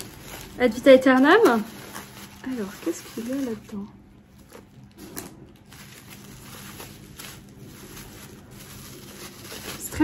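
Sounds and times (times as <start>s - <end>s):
wrapping paper rustling: 0.0s - 10.0s.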